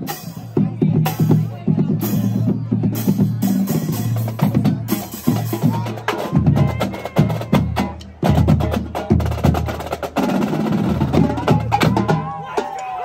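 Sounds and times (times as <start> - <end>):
marching drumline: 0.0 - 12.8.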